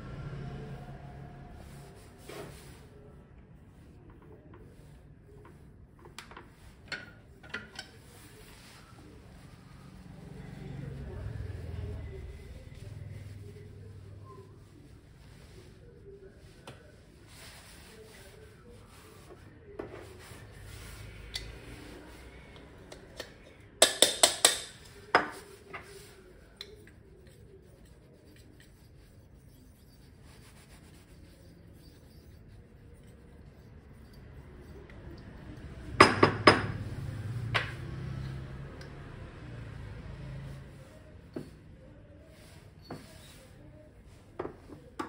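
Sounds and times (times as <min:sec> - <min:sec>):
faint rubbing: 0:00.4 - 0:22.9, 0:24.8 - 0:36.0, 0:36.7 - 0:45.0.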